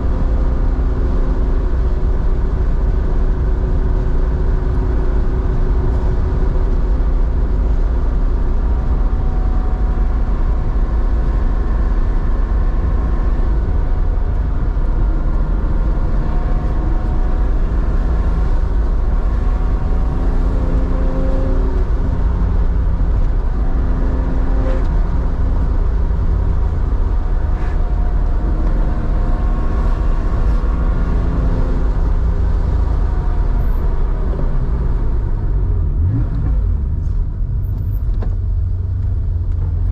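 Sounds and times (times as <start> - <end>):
car engine low rumble: 0.0 - 39.9.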